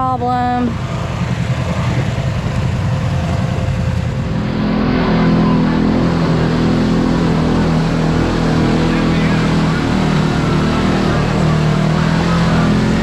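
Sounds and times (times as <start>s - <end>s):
side-by-side engine running: 0.0s - 13.0s.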